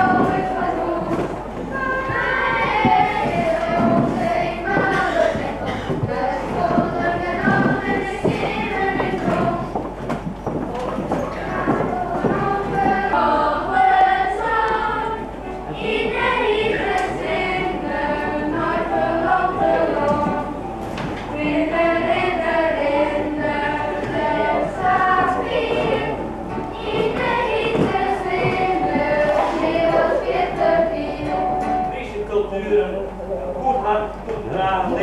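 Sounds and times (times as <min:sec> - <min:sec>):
choir singing: 0:00.0 - 0:09.8, 0:11.4 - 0:31.8.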